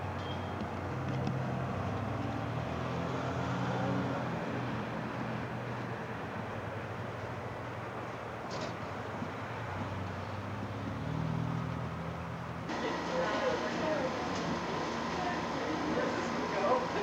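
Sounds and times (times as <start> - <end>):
outdoor noise: 0.0 - 17.0
vehicle engine humming: 0.0 - 17.0.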